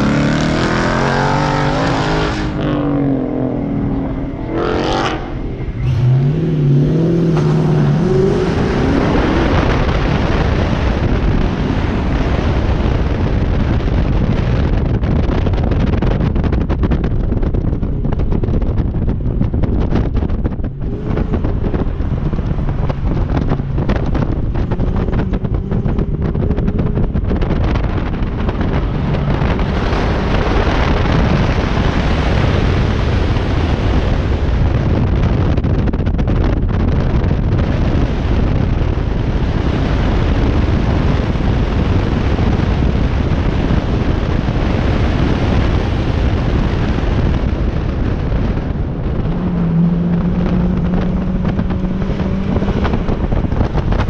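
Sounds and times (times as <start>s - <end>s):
car engine revving: 0.0s - 18.7s, 19.3s - 35.8s, 36.4s - 54.0s
wind rush on microphone: 0.0s - 54.0s.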